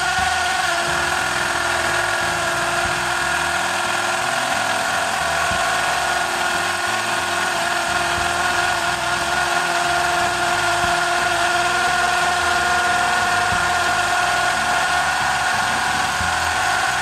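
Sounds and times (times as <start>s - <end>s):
drill bit grinding concrete: 0.0s - 17.0s
hammer drill motor whine: 0.0s - 17.0s.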